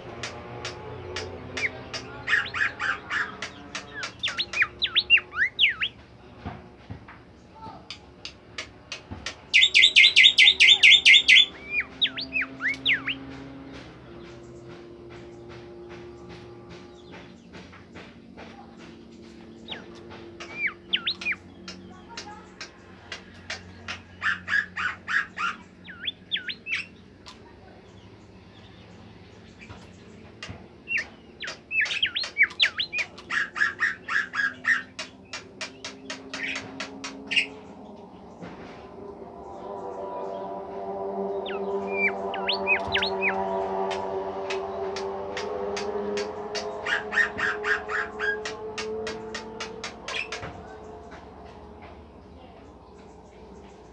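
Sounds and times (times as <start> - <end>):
songbird singing ringing notes: 0.4 - 6.0, 9.4 - 18.0, 19.0 - 38.4, 39.0 - 51.6.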